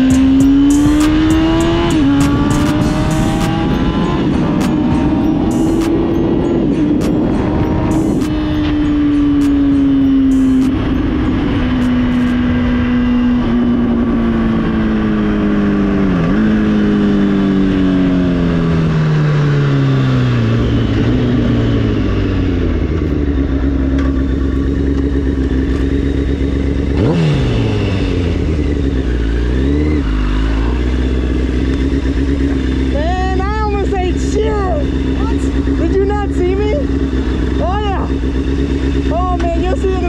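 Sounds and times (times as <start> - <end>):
motorcycle engine: 0.0 - 40.0.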